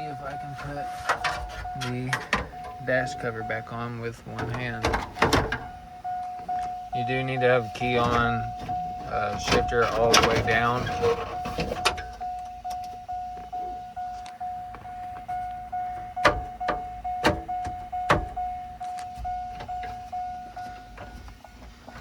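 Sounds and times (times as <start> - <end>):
truck door chime dinging: 0.0 - 22.0.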